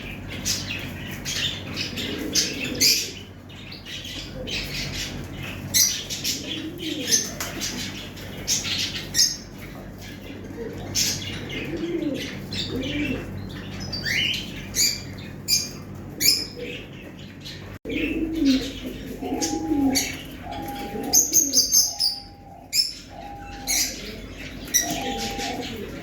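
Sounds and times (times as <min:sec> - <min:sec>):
birds chirping: 0:00.0 - 0:26.0
pigeons cooing: 0:00.0 - 0:26.0.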